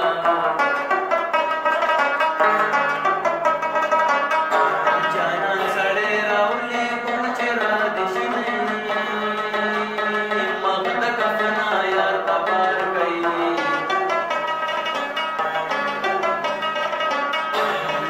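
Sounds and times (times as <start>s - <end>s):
plucked lute melody: 0.0s - 18.0s.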